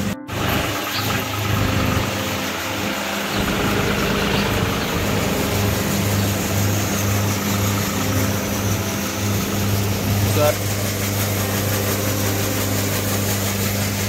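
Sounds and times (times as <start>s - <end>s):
pulsing deep hum: 0.0s - 14.0s
tractor diesel engine running: 0.0s - 14.0s.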